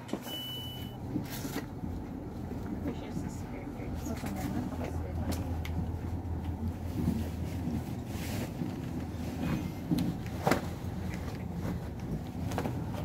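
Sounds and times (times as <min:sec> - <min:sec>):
train carriage hum: 0:00.0 - 0:13.0.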